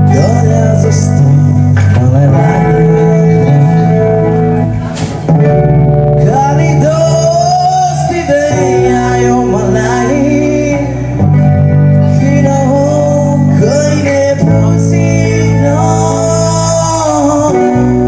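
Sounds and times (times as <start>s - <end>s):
bass: 0.0s - 18.0s
guitar: 0.0s - 18.0s
man singing: 0.0s - 18.0s.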